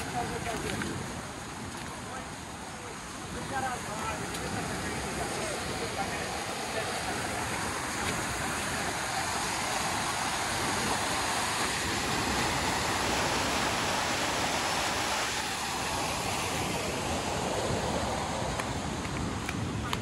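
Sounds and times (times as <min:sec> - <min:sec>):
stream rushing over concrete steps: 0:00.0 - 0:20.0.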